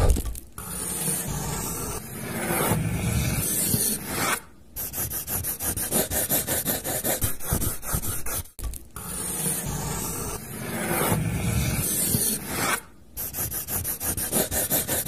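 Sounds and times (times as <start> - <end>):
pencil scratching on paper: 0.0 - 15.0.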